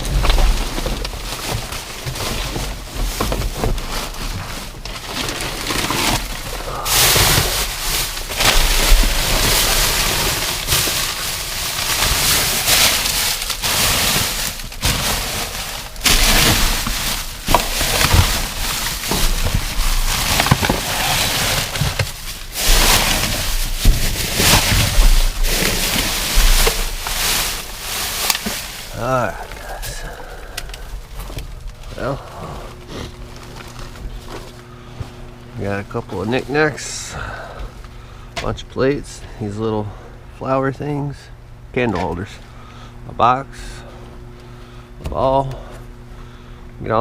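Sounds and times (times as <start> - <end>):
trash bags rustling: 0.0 - 40.0.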